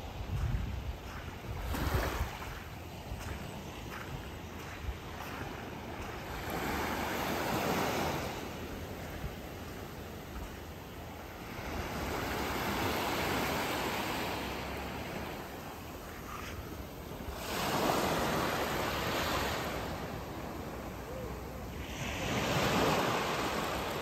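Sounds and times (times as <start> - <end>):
small waves washing on beach: 0.0 - 24.0.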